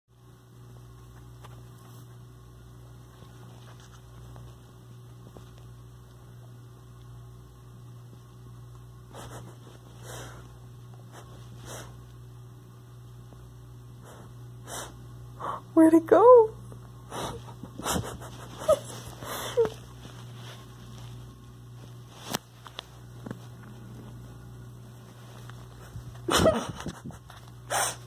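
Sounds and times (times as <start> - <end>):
low electrical hum: 0.1 - 28.0.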